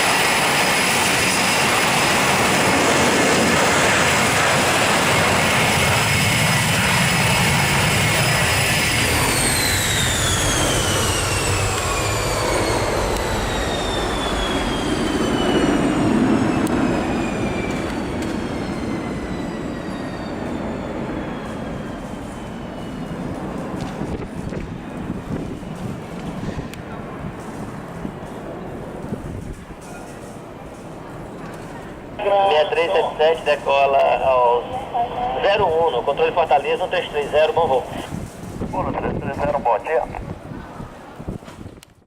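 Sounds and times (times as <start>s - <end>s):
jet engines whining: 0.0s - 41.8s.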